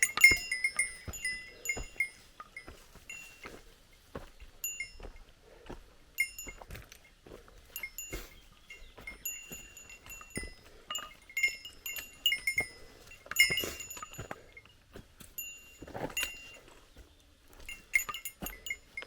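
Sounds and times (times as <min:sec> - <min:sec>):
metal bell jingling: 0:00.0 - 0:03.6, 0:04.6 - 0:05.2, 0:06.2 - 0:16.7, 0:17.6 - 0:19.0
footsteps on trail: 0:00.0 - 0:19.0.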